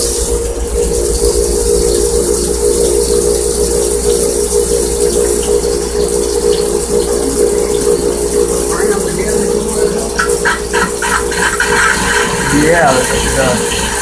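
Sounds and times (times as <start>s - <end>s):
coolant spraying hiss: 0.0s - 14.0s
lathe machine hum: 0.0s - 14.0s.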